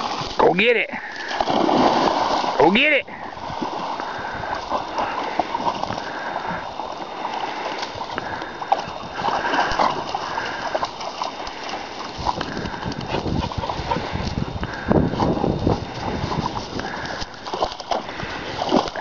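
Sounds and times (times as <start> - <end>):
dogs splashing in water: 0.0 - 19.0.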